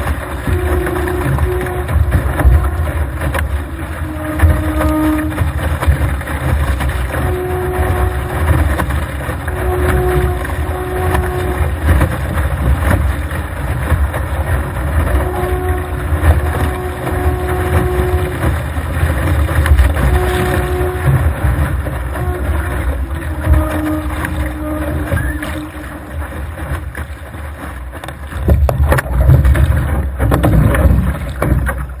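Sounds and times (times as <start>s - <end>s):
water rushing along boat hull: 0.0s - 32.0s.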